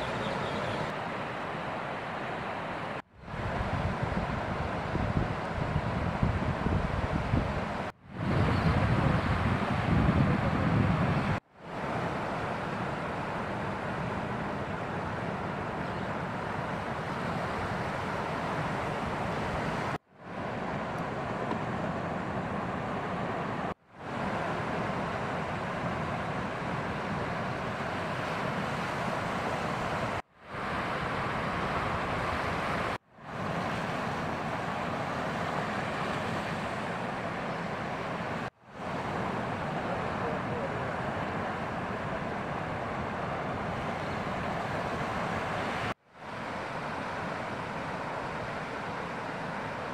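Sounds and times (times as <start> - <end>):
ocean surf breaking: 0.0 - 49.9.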